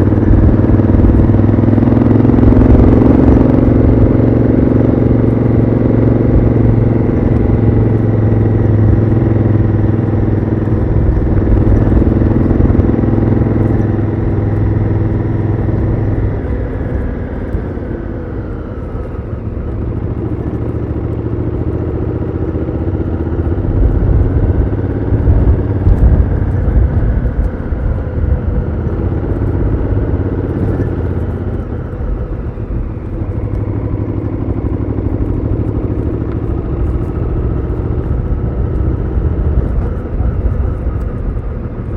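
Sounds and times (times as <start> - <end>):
motorcycle engine: 0.0 - 41.9.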